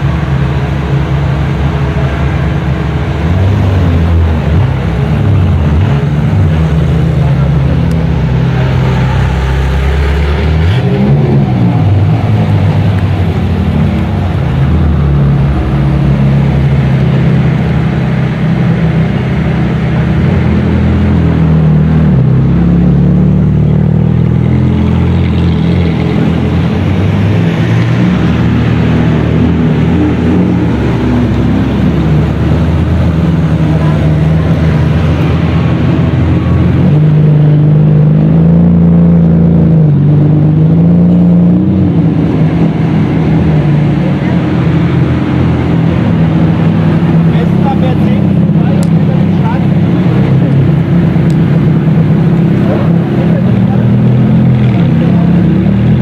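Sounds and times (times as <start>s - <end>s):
sports car engines rumbling: 0.0s - 56.0s.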